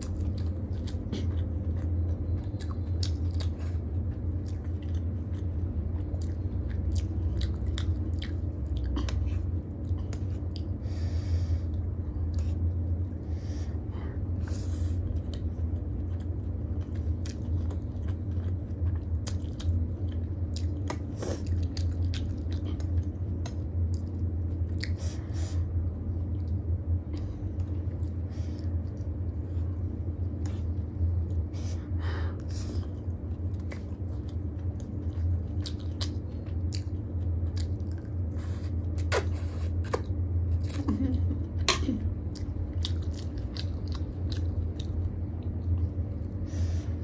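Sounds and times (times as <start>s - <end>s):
chewing noodles: 0.0s - 41.0s, 42.2s - 47.0s
low hum: 0.0s - 47.0s.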